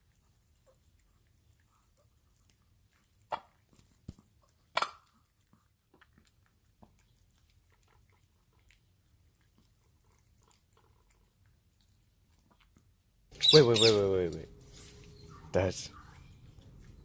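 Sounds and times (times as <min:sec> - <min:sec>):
dog crunching food: 0:00.1 - 0:14.4.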